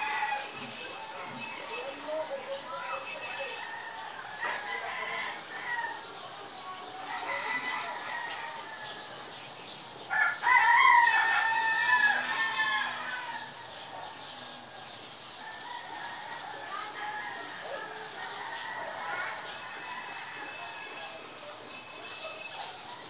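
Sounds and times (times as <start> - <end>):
rooster crowing: 0.0 - 1.9, 2.9 - 6.1, 7.0 - 9.3, 10.1 - 14.8, 15.4 - 22.9.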